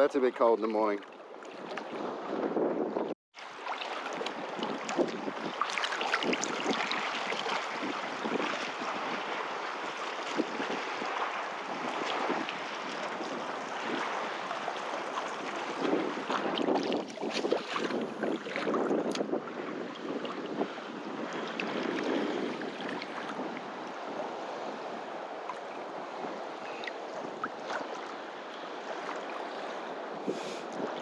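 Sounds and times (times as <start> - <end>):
wind buffeting microphone: 0.0 - 3.2, 4.0 - 31.0
small waves splashing: 0.0 - 31.0.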